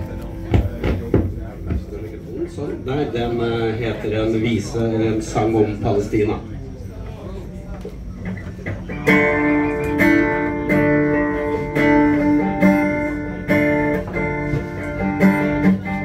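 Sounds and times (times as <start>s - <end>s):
acoustic guitar strumming: 0.0s - 6.4s, 8.2s - 16.0s.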